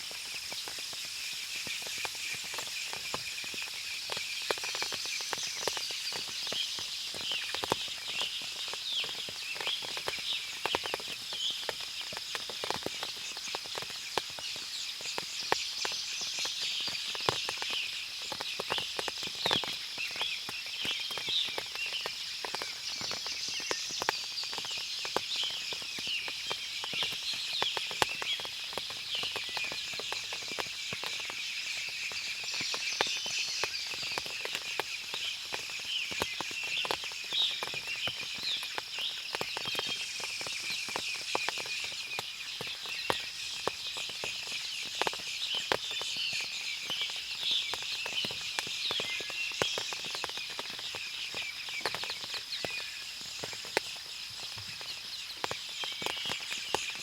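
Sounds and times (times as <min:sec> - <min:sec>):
water dripping from trees: 0:00.0 - 0:57.0.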